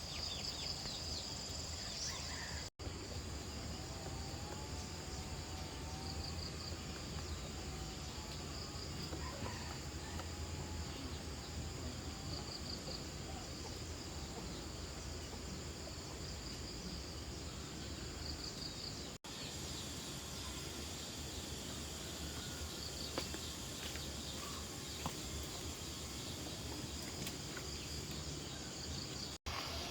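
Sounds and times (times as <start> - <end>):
insects buzzing: 2.3 - 29.9.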